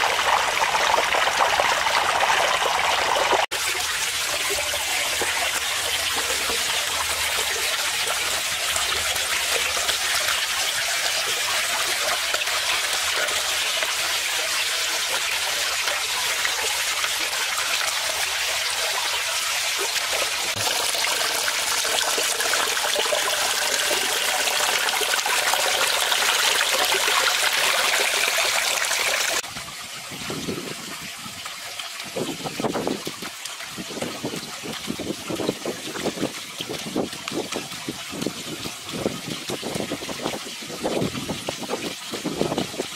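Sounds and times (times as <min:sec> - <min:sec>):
water splashing over stones: 0:00.0 - 0:42.9.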